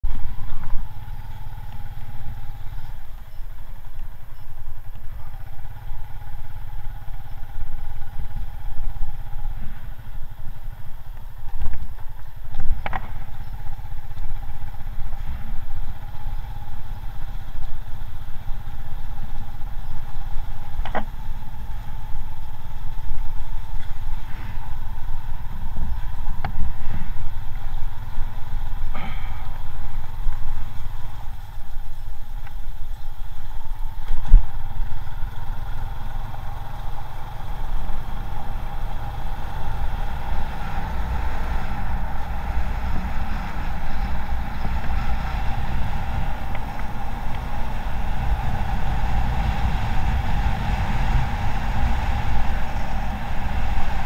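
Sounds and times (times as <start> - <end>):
motorcycle engine running: 0.0 - 54.0
wind rumble on microphone: 7.2 - 54.0.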